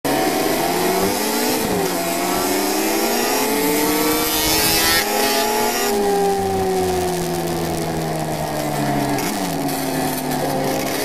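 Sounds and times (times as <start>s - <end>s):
motorcycle engine revving: 0.1s - 11.0s.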